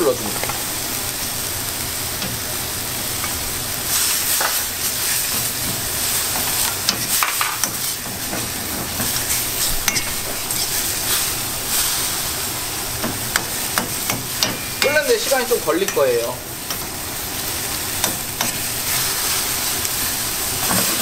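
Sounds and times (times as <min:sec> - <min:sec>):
wok sizzling and hissing: 0:00.0 - 0:21.0
utensil scraping a metal wok: 0:03.1 - 0:21.0.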